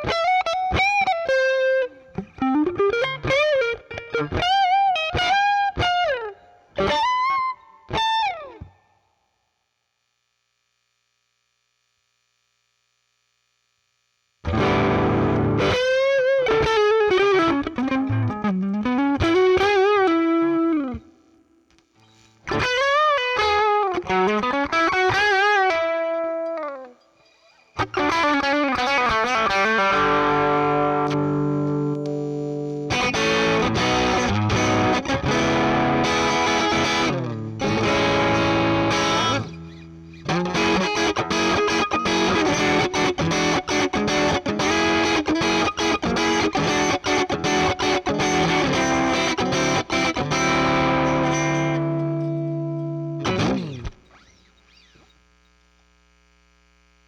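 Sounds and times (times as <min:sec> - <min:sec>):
overdriven electric guitar: 0:00.0 - 0:09.0, 0:14.4 - 0:55.1.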